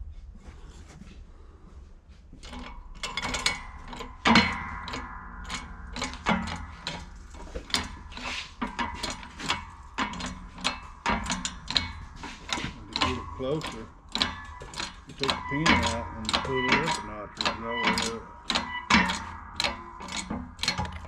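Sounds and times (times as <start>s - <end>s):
metal parts clinking and clattering: 2.4s - 21.0s
ringing metal clank: 2.4s - 21.0s
sharp metallic clicks: 2.4s - 21.0s.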